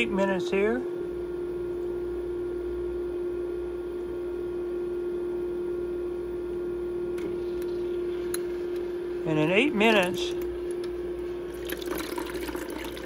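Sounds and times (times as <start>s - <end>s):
ice maker humming: 0.0s - 3.2s, 5.5s - 13.0s.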